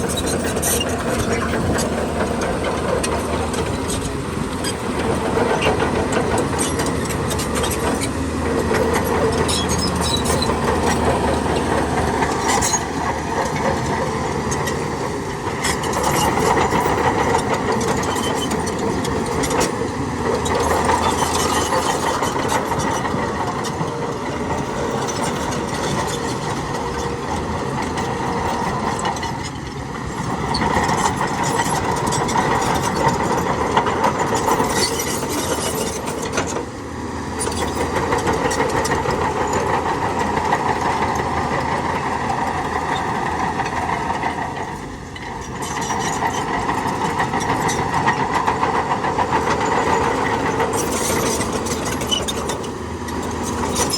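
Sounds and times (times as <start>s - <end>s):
heavy diesel engine under load: 0.0s - 53.9s.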